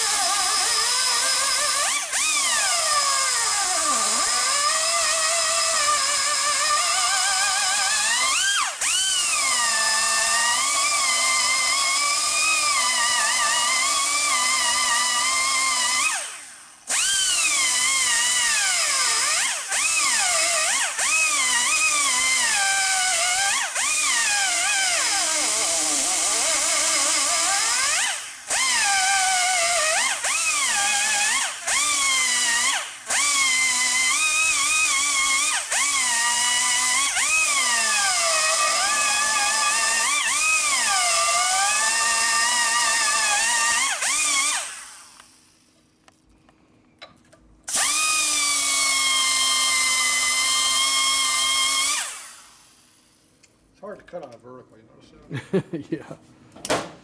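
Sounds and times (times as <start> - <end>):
power tool cutting metal: 0.0 - 45.4, 47.7 - 52.8.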